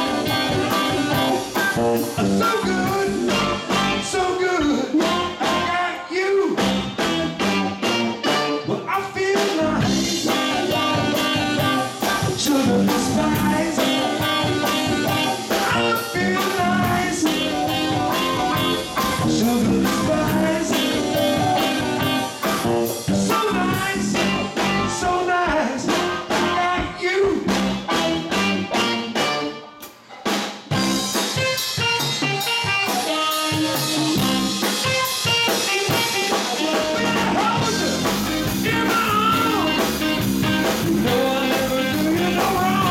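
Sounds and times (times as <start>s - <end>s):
drum kit beat: 0.0s - 5.7s, 6.5s - 42.9s
saxophone: 0.0s - 9.1s, 9.8s - 29.9s, 30.8s - 42.9s
electric guitar: 0.0s - 42.9s.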